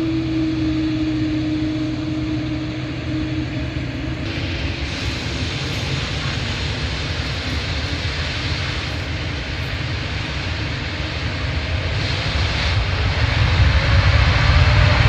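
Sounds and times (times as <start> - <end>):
airliner engine rumbling: 0.0 - 15.0.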